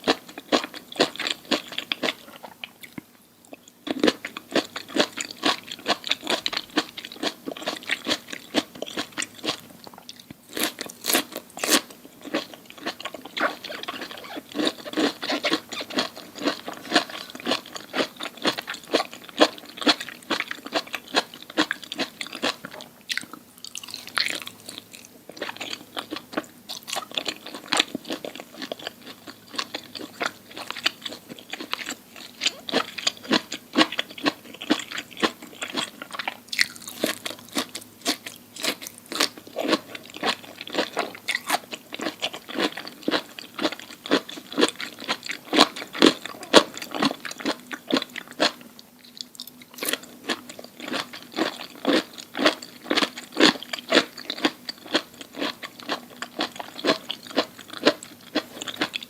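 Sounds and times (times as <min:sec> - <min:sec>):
person chewing crisp food: 0:00.0 - 0:59.0.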